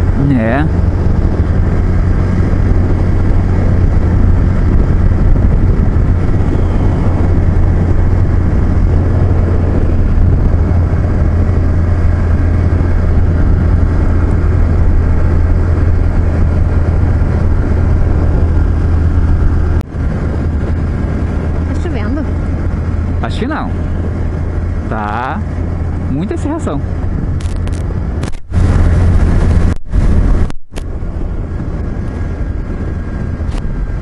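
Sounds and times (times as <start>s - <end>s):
motorcycle engine rumble: 0.0s - 34.0s
road noise: 0.0s - 34.0s
wind noise: 0.0s - 34.0s.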